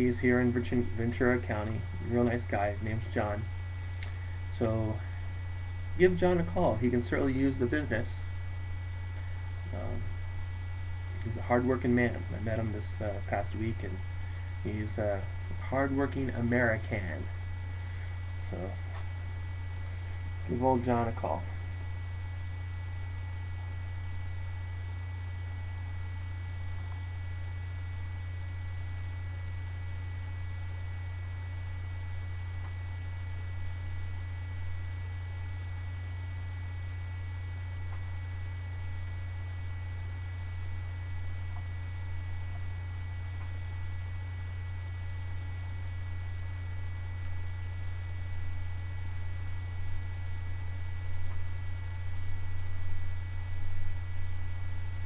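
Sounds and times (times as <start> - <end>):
low electrical mains hum: 0.0 - 55.0.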